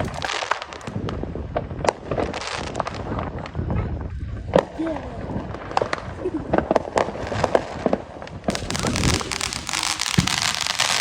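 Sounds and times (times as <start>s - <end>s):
fireworks banging and crackling: 0.0s - 11.0s.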